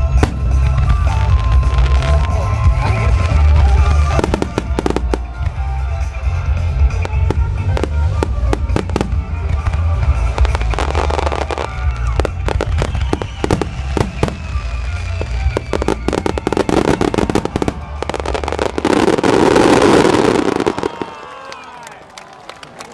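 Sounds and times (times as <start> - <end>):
music with strong bass: 0.0 - 20.4
fireworks bursting: 0.0 - 21.2.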